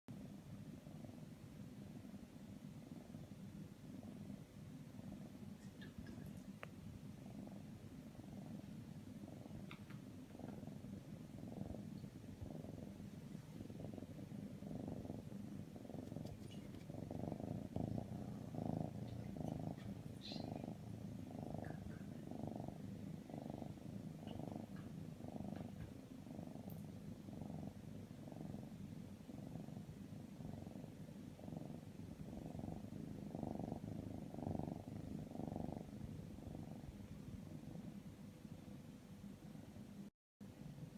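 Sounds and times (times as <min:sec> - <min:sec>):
kitten purring: 0:00.1 - 0:40.1.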